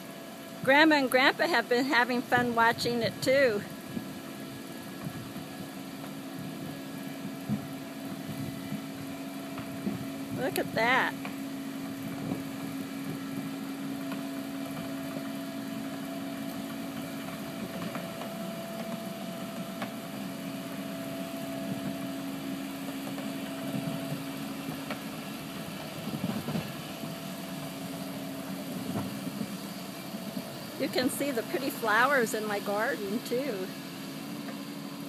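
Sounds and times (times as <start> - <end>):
mini excavator diesel engine: 0.0 - 35.0.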